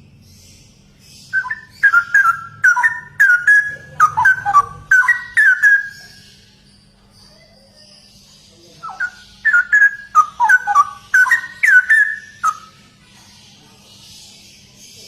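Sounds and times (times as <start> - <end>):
bird singing whistled notes: 0.0 - 12.8.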